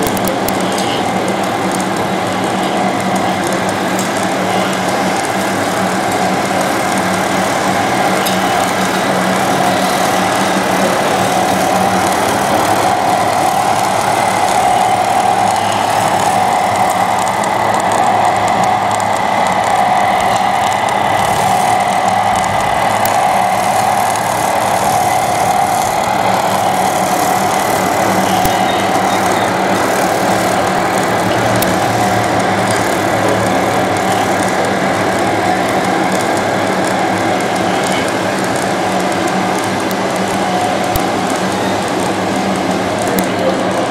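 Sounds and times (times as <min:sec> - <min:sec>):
model machines humming with whine: 0:00.0 - 0:43.9.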